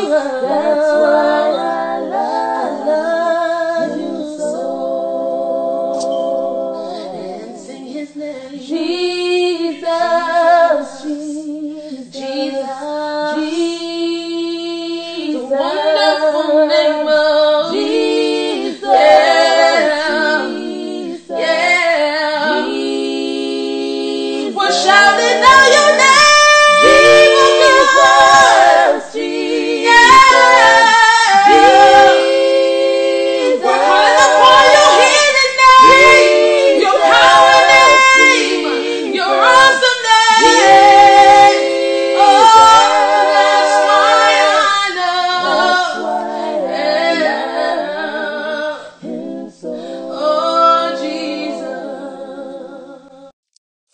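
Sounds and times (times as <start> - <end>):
women singing in harmony: 0.0 - 53.3.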